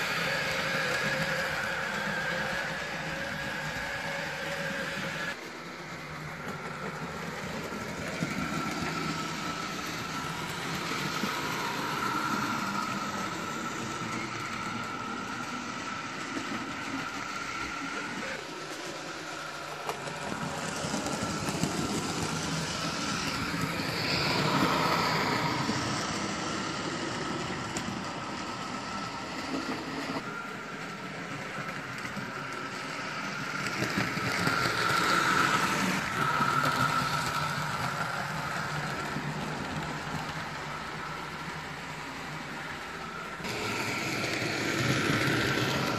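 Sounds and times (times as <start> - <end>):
electric motor whine: 0.0 - 41.2
wheels rattling on track: 0.0 - 45.9.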